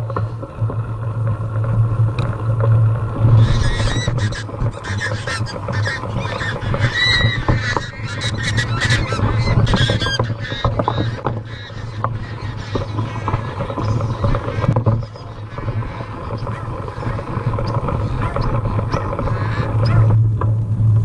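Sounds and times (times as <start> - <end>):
low wind rumble: 0.0 - 21.0
mountain bike riding noise: 0.0 - 21.0
geese honking: 3.2 - 20.2.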